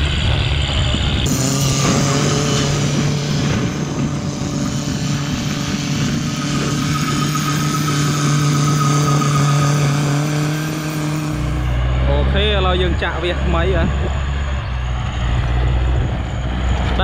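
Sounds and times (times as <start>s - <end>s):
thin whine: 0.0s - 17.0s
tractor diesel engine running: 0.0s - 17.0s.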